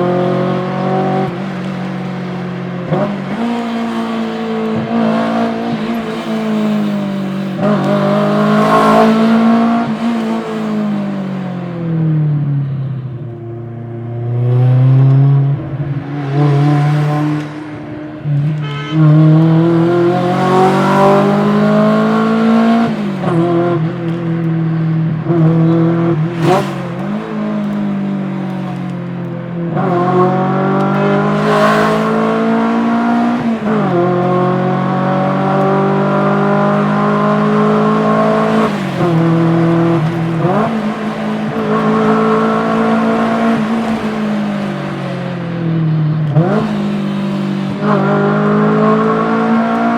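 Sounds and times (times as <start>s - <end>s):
car engine accelerating hard: 0.0s - 49.9s.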